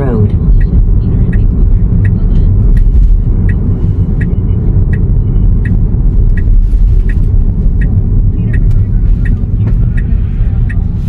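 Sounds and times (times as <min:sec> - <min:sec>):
road and tyre rumble: 0:00.0 - 0:11.0
turn signal ticking: 0:00.0 - 0:11.0.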